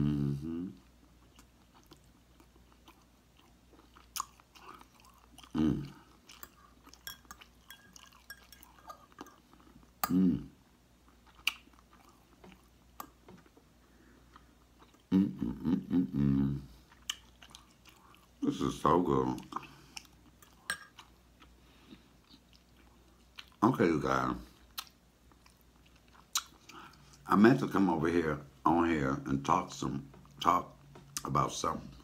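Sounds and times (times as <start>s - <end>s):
man chewing food: 0.1s - 23.6s, 24.4s - 27.3s.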